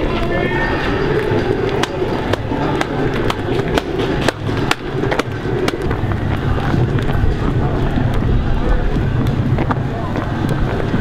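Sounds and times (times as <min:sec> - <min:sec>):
cleats clacking on asphalt: 0:00.0 - 0:11.0.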